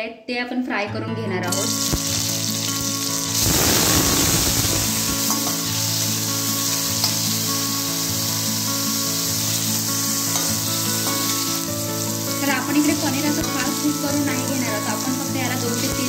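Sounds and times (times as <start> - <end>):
cheese cubes sizzling in oil: 1.6 - 16.0.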